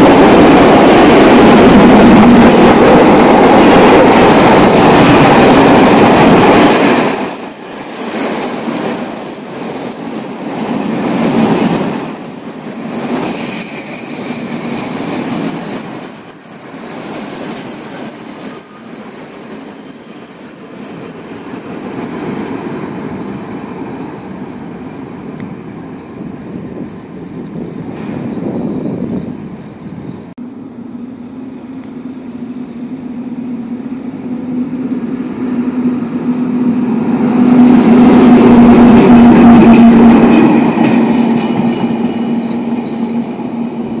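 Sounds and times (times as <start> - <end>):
train passing with low tone: 0.0 - 44.0.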